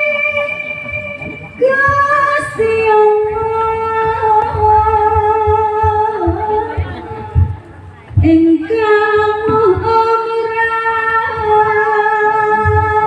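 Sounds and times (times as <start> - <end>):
soft low drum beats: 0.3 - 13.0.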